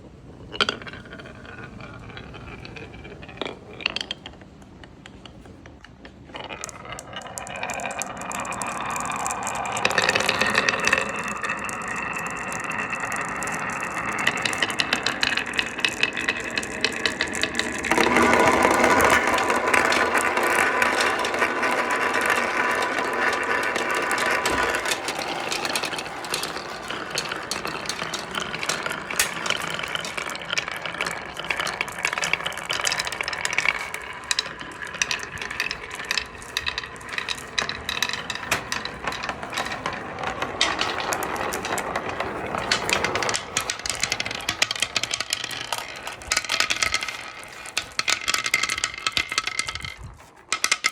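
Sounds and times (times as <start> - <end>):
balls rattling down marble run: 0.0 - 50.9.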